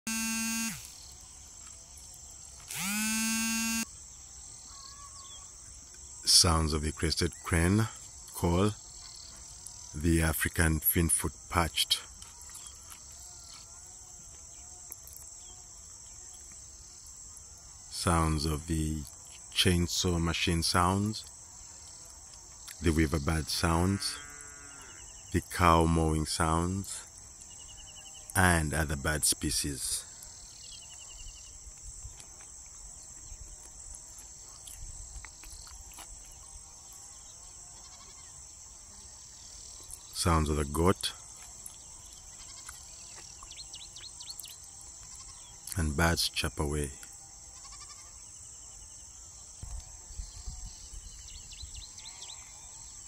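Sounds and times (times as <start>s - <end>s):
insects chirring: 0.1s - 53.0s.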